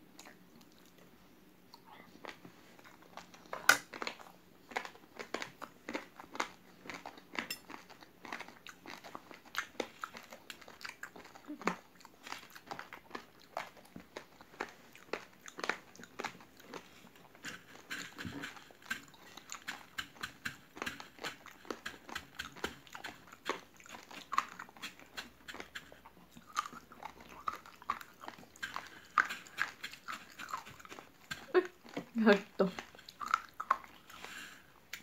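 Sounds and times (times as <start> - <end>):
crisp chewing crunches: 1.7 - 35.0.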